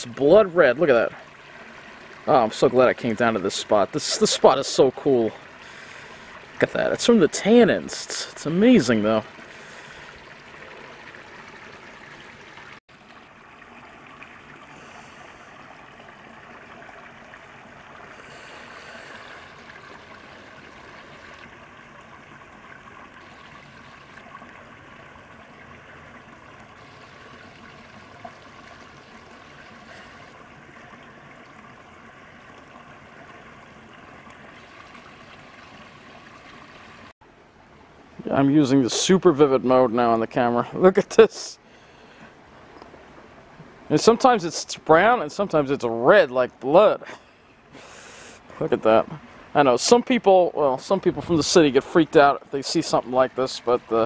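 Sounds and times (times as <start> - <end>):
creek trickling and burbling: 0.0 - 54.0.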